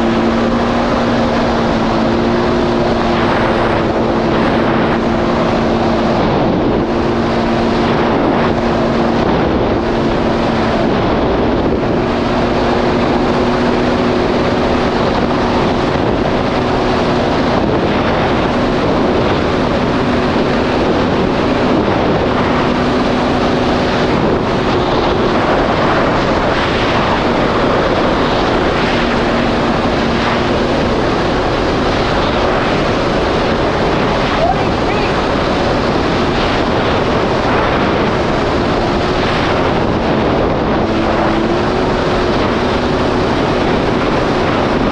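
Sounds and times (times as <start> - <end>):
jet ski engine drone: 0.0 - 44.9
wind on microphone: 0.0 - 44.9.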